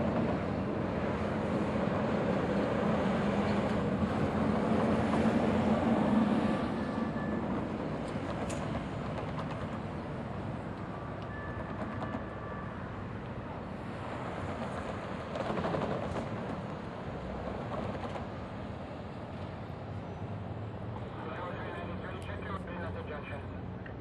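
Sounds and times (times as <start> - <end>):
light-rail train rumbling: 0.0 - 24.0.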